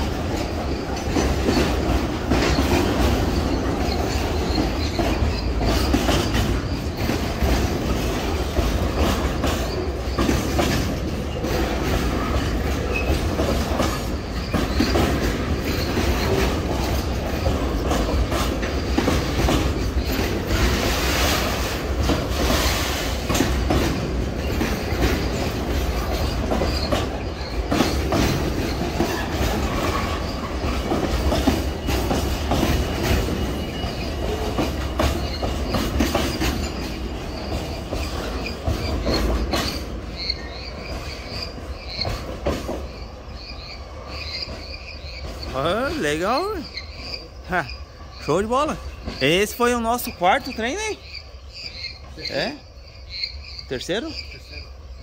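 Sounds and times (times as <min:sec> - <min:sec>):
clickety-clack over rail joints: 0:00.0 - 0:55.0
steel wheels rumbling on rails: 0:00.0 - 0:55.0.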